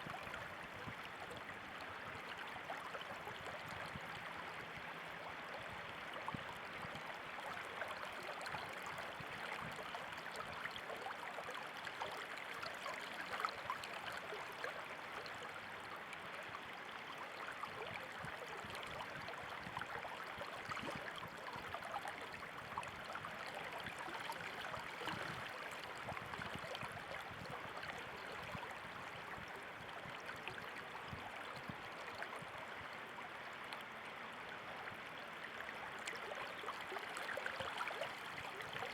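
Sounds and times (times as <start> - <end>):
running water babbling: 0.0 - 38.9.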